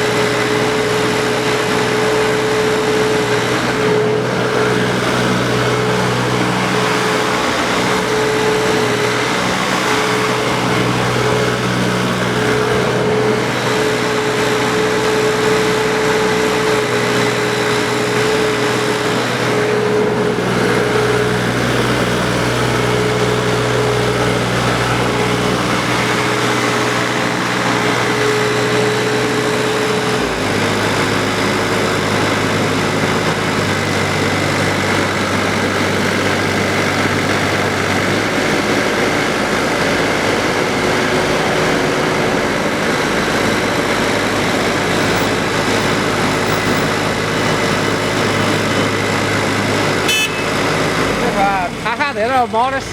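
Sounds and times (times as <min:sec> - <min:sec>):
mini excavator diesel engine running: 0:00.0 - 0:52.9.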